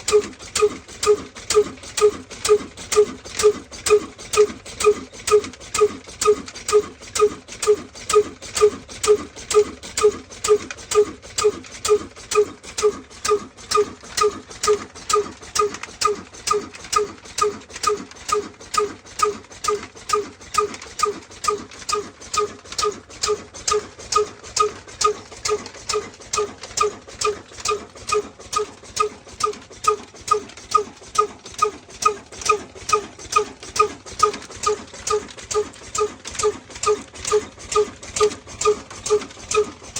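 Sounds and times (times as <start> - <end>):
diesel engine running slowly: 0.0 - 39.9.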